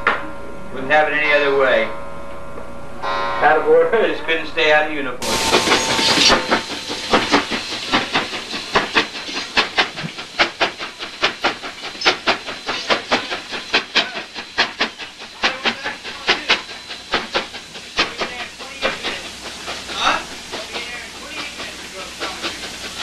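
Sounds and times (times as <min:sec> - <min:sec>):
steam locomotive chuffing: 0:03.4 - 0:23.0.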